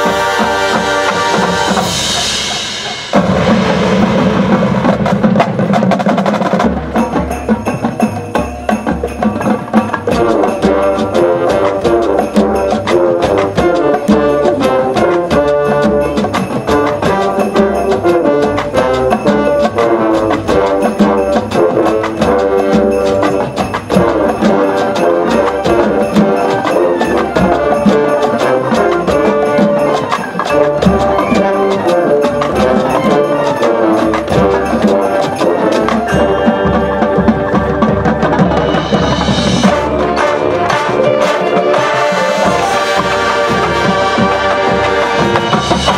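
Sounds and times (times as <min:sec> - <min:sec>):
brass and winds playing: 0:00.0 - 0:06.6, 0:10.1 - 0:45.9
drum and percussion strokes: 0:00.0 - 0:45.9.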